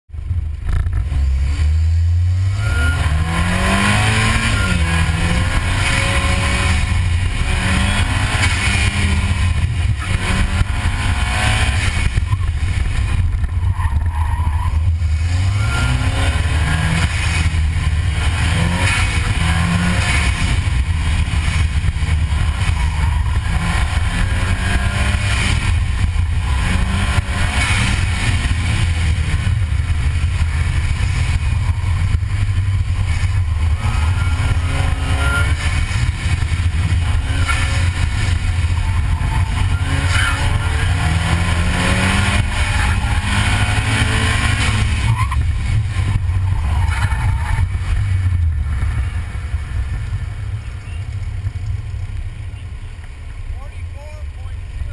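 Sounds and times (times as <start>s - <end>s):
car engine accelerating hard: 0.1s - 54.9s.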